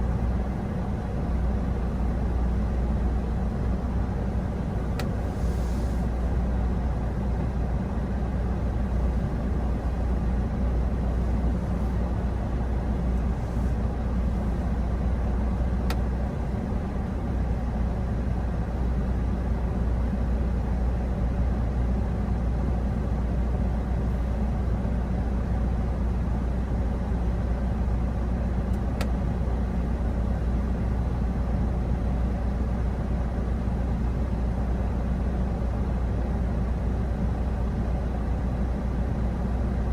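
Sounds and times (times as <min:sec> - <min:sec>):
vehicle driving rumble: 0:00.0 - 0:39.9.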